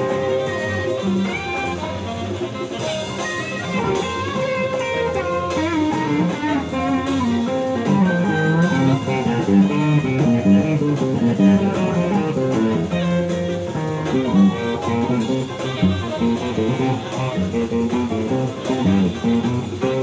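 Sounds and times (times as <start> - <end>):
electric guitar riffs: 0.0 - 20.0.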